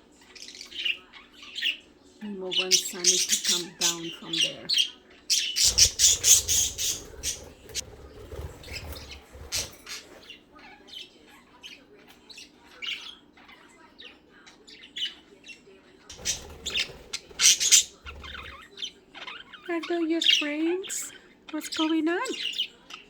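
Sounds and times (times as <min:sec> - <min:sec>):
budgerigars chirping and squawking: 0:00.0 - 0:23.0.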